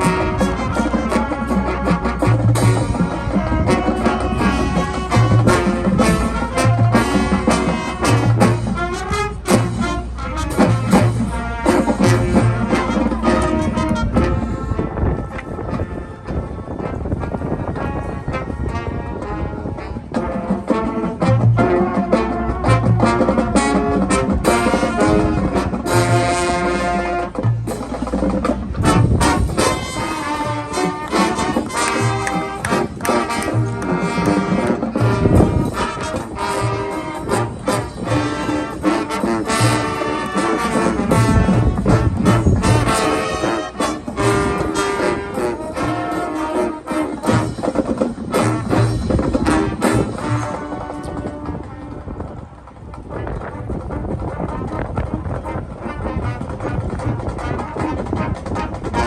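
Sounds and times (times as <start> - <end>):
marching band brass: 0.0 - 59.0.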